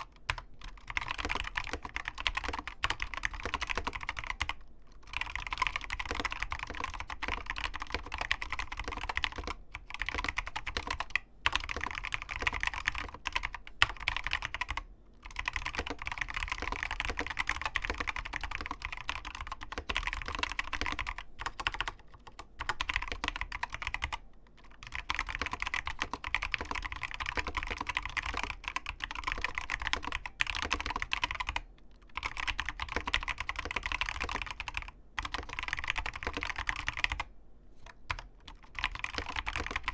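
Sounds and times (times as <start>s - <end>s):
mechanical keyboard typing: 0.0s - 37.3s, 37.9s - 39.9s.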